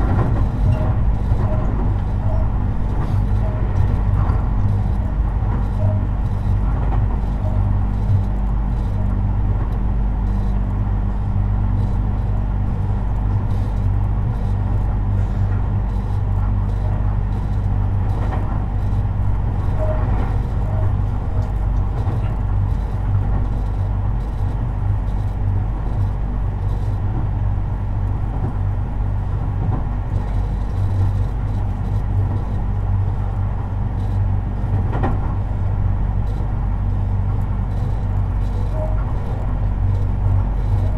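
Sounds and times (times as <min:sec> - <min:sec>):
train low hum: 0:00.0 - 0:40.9
wheels rumbling on rail: 0:00.0 - 0:40.9.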